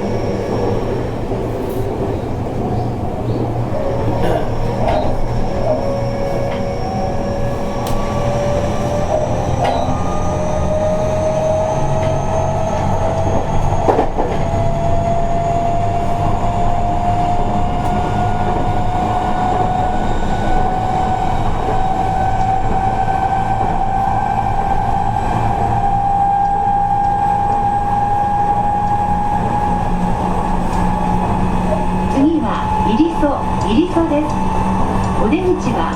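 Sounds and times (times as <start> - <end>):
electric train motor whine: 0.0 - 35.9
rumble of wheels on rail: 0.0 - 35.9.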